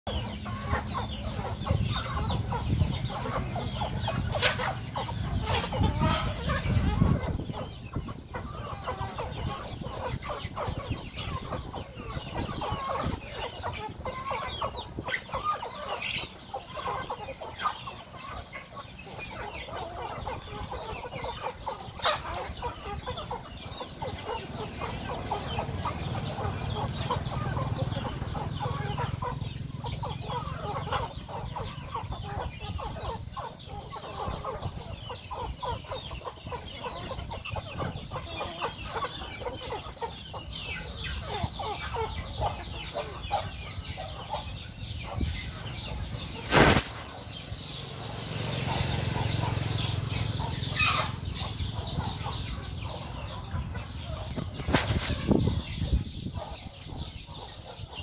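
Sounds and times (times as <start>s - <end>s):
chickens clucking: 0.1s - 58.0s.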